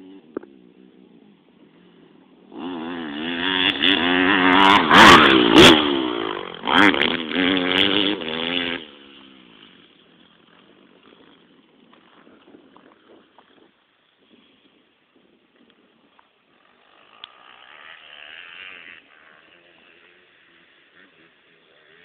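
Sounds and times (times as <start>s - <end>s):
motocross bike engine revving: 0.0s - 14.7s, 15.9s - 22.0s.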